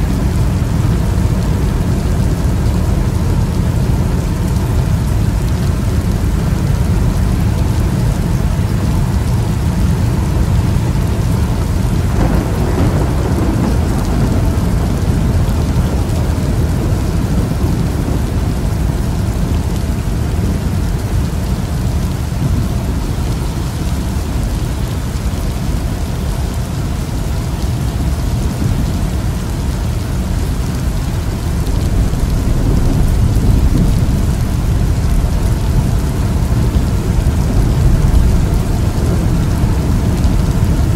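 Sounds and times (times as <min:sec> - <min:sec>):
thunder rumbling: 0:00.0 - 0:25.9, 0:28.0 - 0:40.9
rain on a car: 0:00.0 - 0:40.9.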